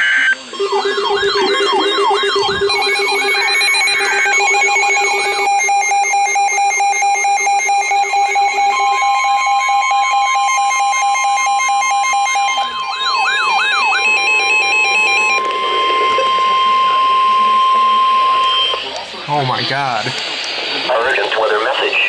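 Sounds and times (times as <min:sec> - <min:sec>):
warbling siren-like tone: 0:00.0 - 0:19.2
long steady alert tone: 0:00.0 - 0:20.0
rapid electronic beeping: 0:00.0 - 0:20.1.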